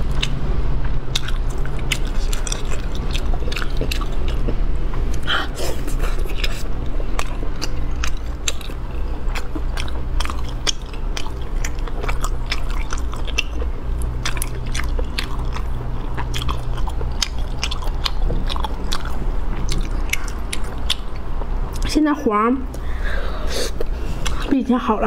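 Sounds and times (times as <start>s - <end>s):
close chewing with wet mouth clicks: 0.0s - 0.4s, 1.1s - 21.9s, 23.8s - 24.6s
low hum: 0.0s - 25.0s.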